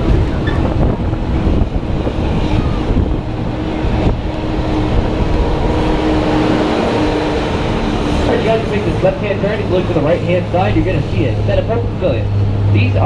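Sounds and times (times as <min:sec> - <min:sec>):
tram engine and road rumble: 0:00.0 - 0:13.0.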